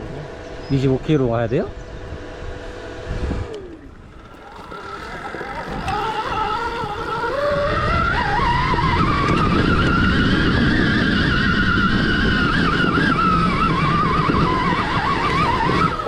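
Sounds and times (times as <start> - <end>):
electric motorbike motor whining: 0.0 - 16.0.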